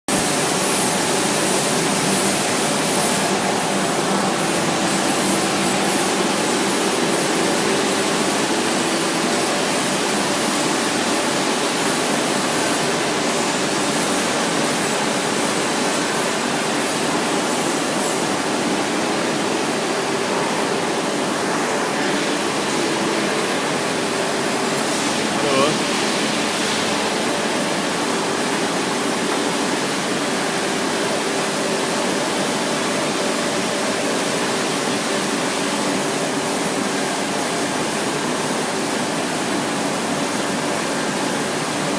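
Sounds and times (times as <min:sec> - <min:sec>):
grinding machine hiss: 0:00.1 - 0:41.9.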